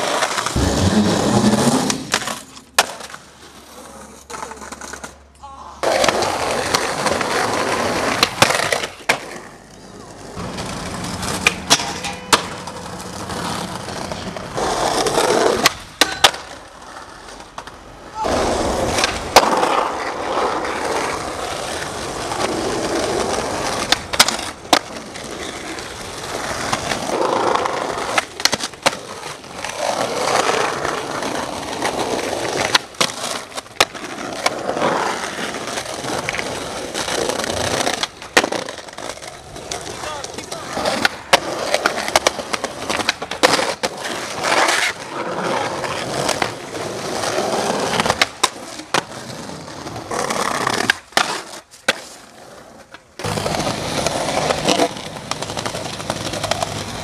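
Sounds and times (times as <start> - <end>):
skateboard clacks: 0.0 - 5.2, 5.8 - 57.0
skateboard wheels rolling on pavement: 0.0 - 57.0.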